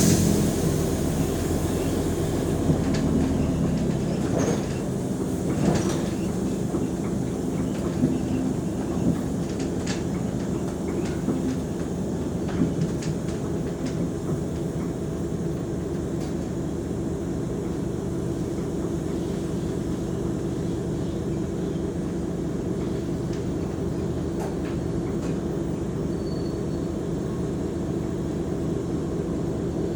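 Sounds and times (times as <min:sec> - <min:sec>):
bus engine droning: 0:00.0 - 0:29.9.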